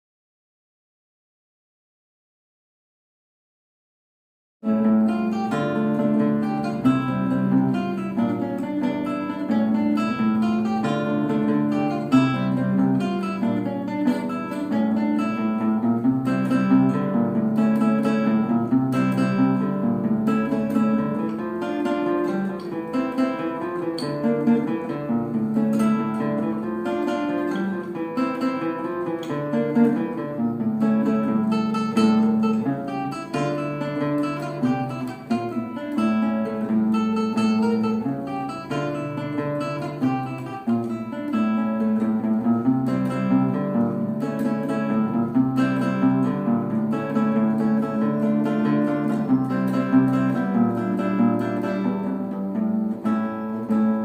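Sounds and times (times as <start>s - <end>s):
flamenco acoustic guitar: 4.6s - 54.0s.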